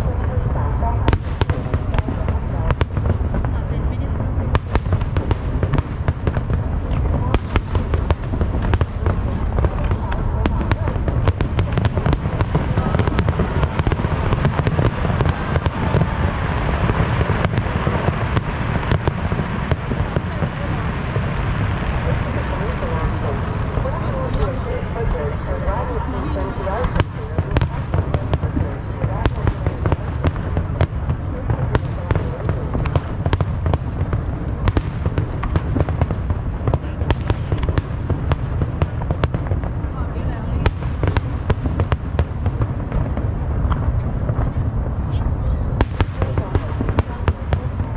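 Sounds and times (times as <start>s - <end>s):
fireworks crackling and banging: 0.0s - 47.9s
low rumble: 0.0s - 47.9s.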